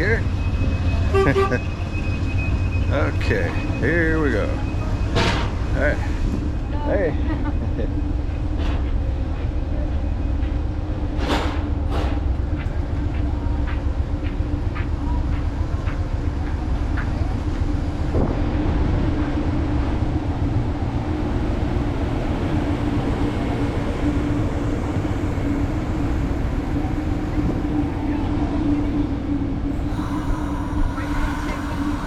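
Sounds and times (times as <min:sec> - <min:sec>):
train rumbling with hum: 0:00.0 - 0:32.0.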